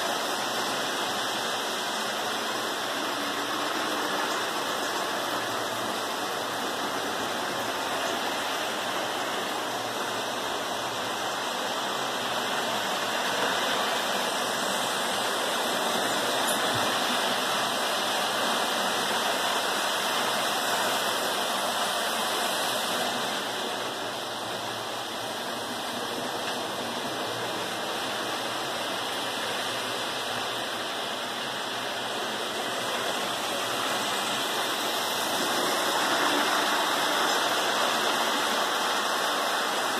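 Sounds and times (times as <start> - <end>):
toy trains whirring on metal track: 0.0 - 39.9.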